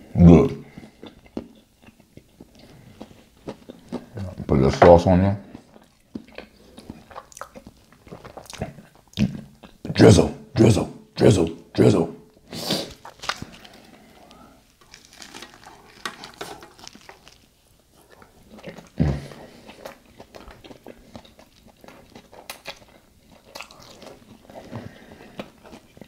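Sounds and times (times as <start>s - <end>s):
person chewing: 0.6s - 4.5s, 5.4s - 9.9s, 12.4s - 26.0s.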